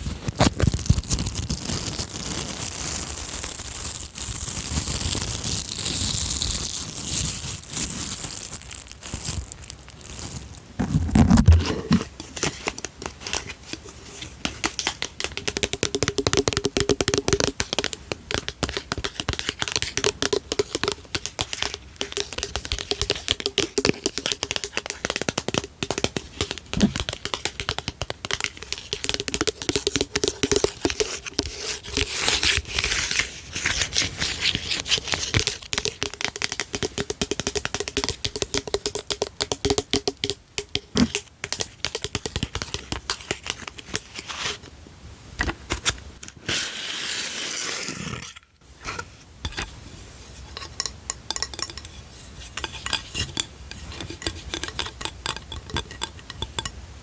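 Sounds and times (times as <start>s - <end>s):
tapping on small hard objects: 0.2s - 13.5s, 14.4s - 32.7s, 34.9s - 44.1s, 50.5s - 56.8s.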